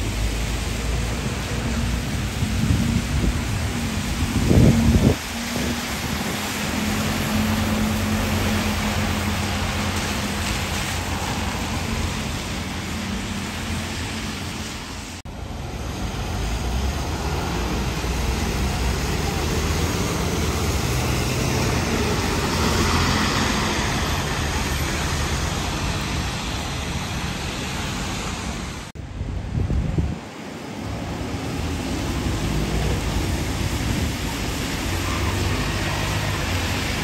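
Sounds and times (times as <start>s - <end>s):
rain hiss: 0.0s - 29.0s, 29.9s - 37.0s
buses and traffic passing: 0.0s - 37.0s
tyres on wet road: 0.0s - 37.0s.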